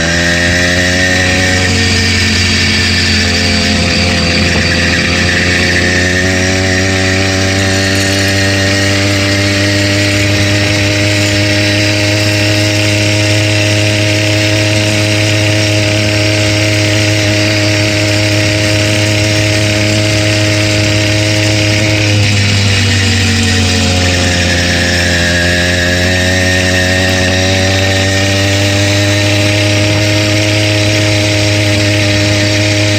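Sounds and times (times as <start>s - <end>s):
engine knocking: 0.0s - 32.9s
two-stroke bicycle engine running: 0.0s - 32.9s.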